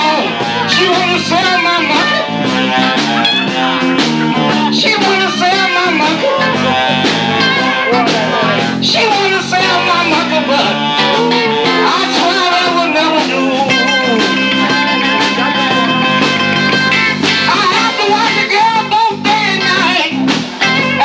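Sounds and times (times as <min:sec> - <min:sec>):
guitar: 0:00.0 - 0:21.0
live band playing: 0:00.0 - 0:21.0.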